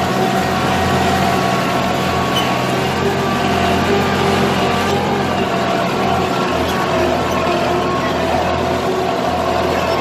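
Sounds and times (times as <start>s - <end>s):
tractor engine under load: 0.0s - 10.0s.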